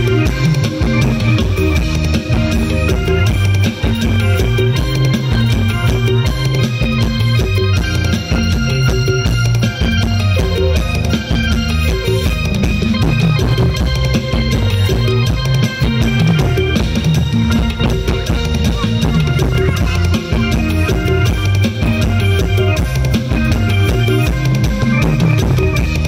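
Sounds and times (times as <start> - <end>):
drum kit beat: 0.0 - 26.0
electric bass: 0.0 - 26.0
keyboard tones: 0.0 - 26.0.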